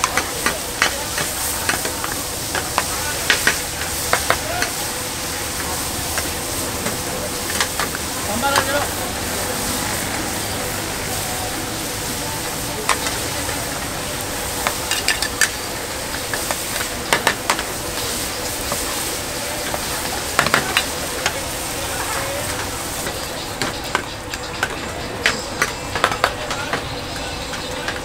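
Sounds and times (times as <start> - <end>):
food sizzling: 0.0 - 28.0.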